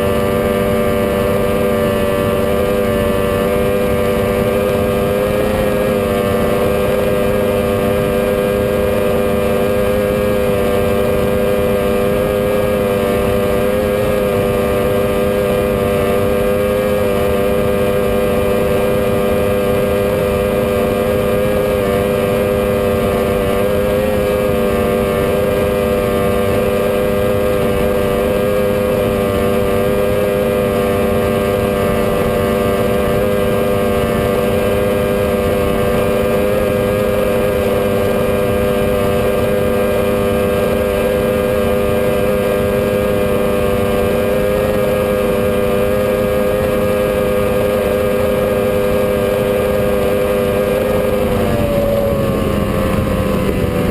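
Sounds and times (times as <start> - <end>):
powerboat engine droning: 0.0 - 53.9.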